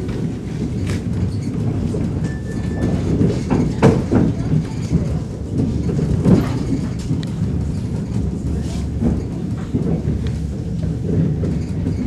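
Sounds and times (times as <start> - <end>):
faint clicks and rattles: 0.0 - 12.0
train wheels rumbling on rails: 0.0 - 12.0.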